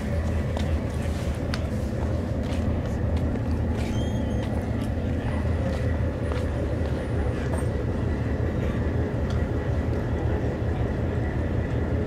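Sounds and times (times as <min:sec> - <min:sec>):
low harbour rumble: 0:00.0 - 0:12.0.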